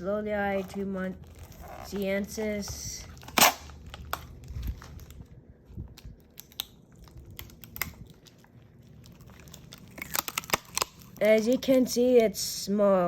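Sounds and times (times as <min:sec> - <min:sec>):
plastic bag crinkling: 0:00.3 - 0:12.2.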